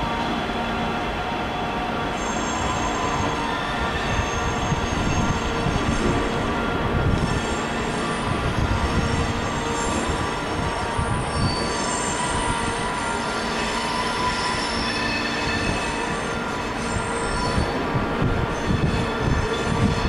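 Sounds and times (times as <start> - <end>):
train rumble: 0.0 - 20.0
train wheels squealing on rails: 0.0 - 20.0.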